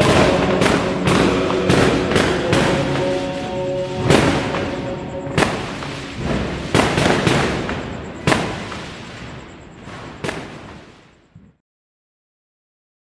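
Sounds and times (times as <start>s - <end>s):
fireworks bangs echoing: 0.0s - 11.0s.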